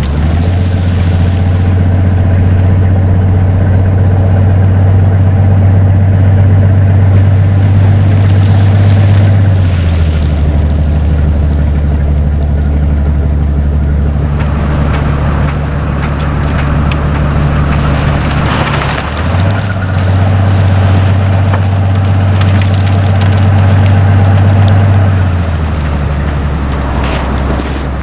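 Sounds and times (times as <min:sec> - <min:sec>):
snow crunching and rushing: 0:00.0 - 0:02.9, 0:06.4 - 0:28.0
snow blower engine drone: 0:00.0 - 0:28.0.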